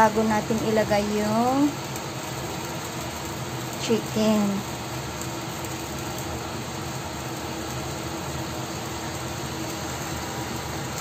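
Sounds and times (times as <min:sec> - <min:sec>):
gas burner rushing: 0:00.0 - 0:11.0.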